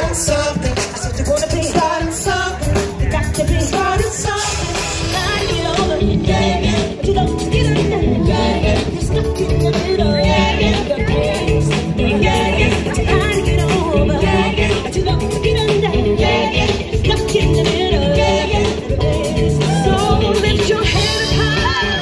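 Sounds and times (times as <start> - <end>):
live band playing: 0.0 - 22.0
person singing: 0.0 - 22.0.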